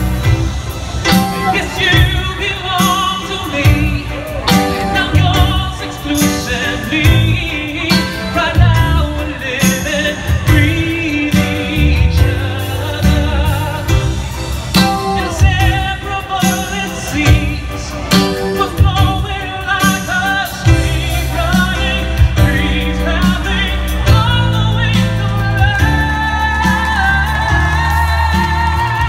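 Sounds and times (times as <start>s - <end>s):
band with drums and bass: 0.0s - 29.0s
man singing with vibrato: 0.0s - 29.0s.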